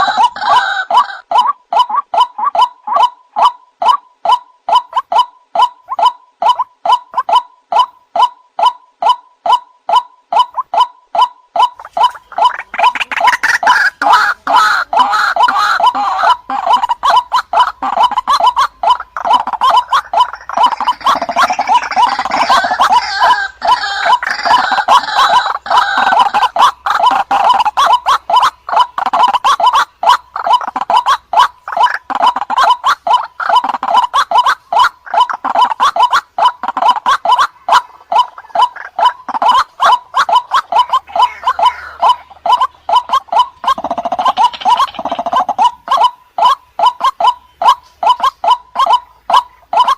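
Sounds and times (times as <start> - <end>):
waterhen harsh croaking: 0.0 - 49.9.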